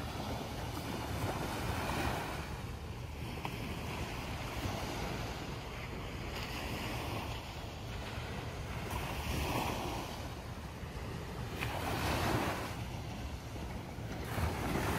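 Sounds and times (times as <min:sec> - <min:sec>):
small waves washing onto beach: 0:00.0 - 0:14.9.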